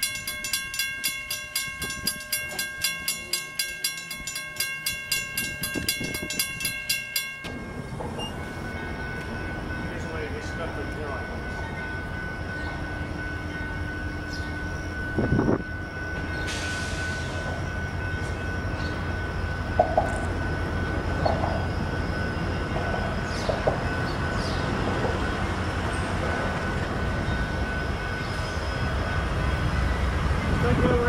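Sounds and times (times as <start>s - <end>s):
diesel locomotive engine rumble: 0.0s - 31.0s.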